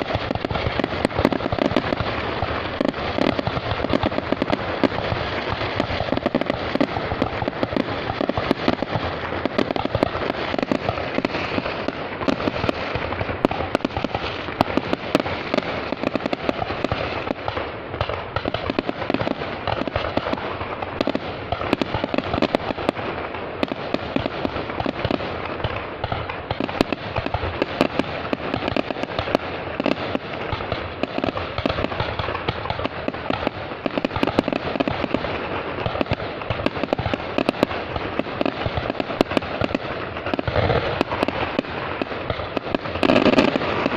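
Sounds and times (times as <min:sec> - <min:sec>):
fireworks crackling and banging: 0:00.0 - 0:43.9.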